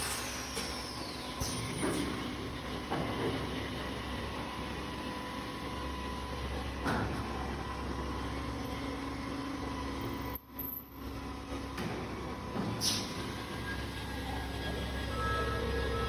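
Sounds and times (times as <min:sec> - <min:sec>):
machine mechanical hum: 0:00.0 - 0:16.0.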